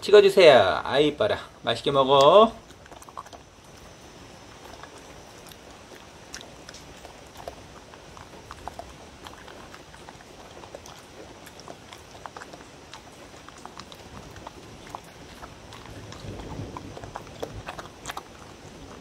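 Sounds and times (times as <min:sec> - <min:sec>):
dog chewing from wooden bowl: 0:00.0 - 0:19.0.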